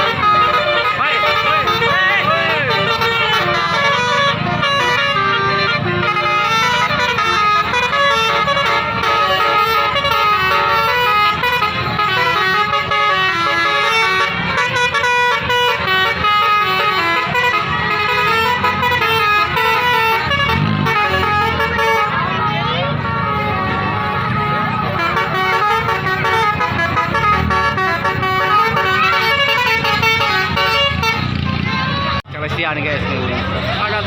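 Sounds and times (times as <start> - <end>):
musical air horn tune: 0.0 - 32.2
bus engine rumble: 0.0 - 34.0.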